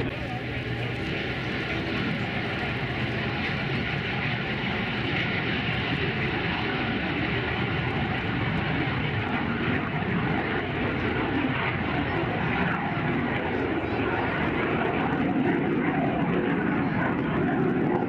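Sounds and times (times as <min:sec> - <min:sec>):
jet engine noise: 0:00.0 - 0:18.0.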